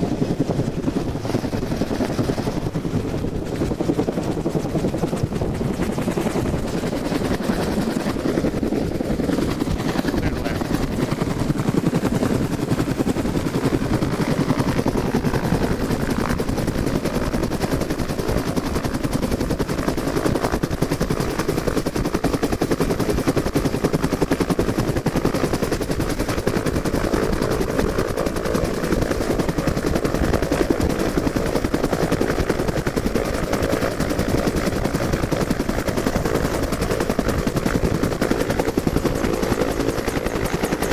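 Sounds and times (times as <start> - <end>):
helicopter engine: 0.0 - 40.9
helicopter rotor beating: 0.0 - 40.9.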